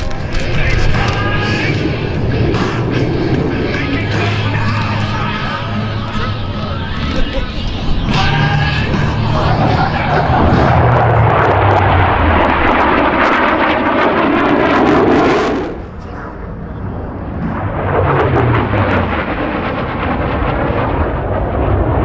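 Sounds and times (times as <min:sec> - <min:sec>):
military jet flying past: 0:00.0 - 0:22.0.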